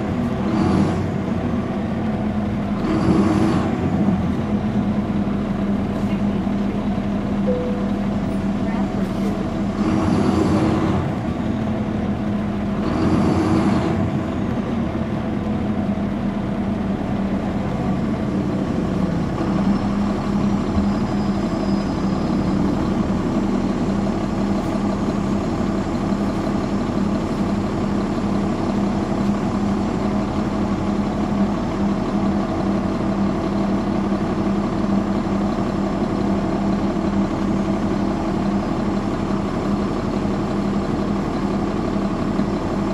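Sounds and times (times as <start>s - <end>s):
bus diesel engine idling: 0.0s - 42.9s.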